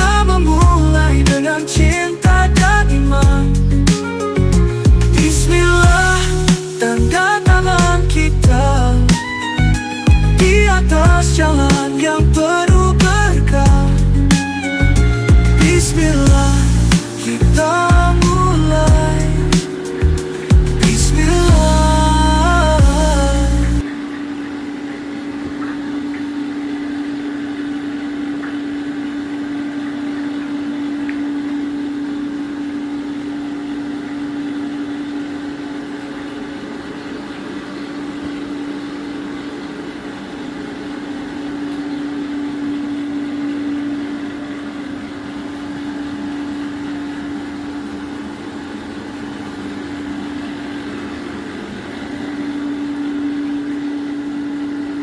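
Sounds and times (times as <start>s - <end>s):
machine humming steadily: 0.0s - 55.0s.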